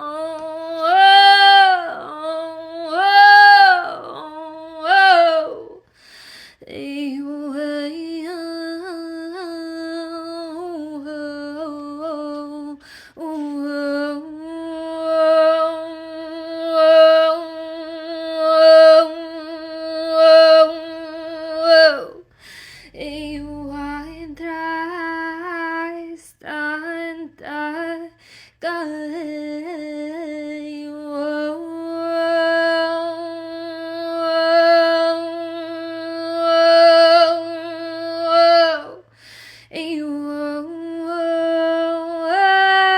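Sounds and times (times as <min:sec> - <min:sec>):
woman singing wordless held tones: 0:00.0 - 0:05.9, 0:06.6 - 0:42.9.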